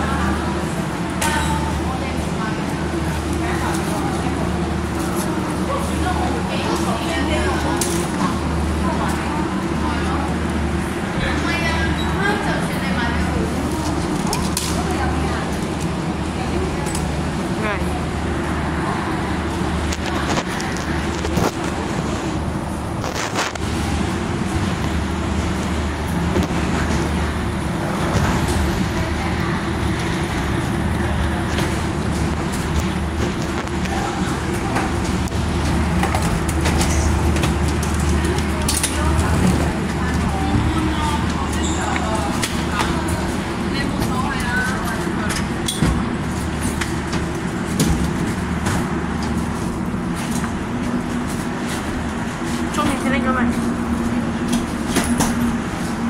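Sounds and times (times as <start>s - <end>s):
faint crowd voices: 0.0s - 56.0s
low engine drone: 0.0s - 56.0s.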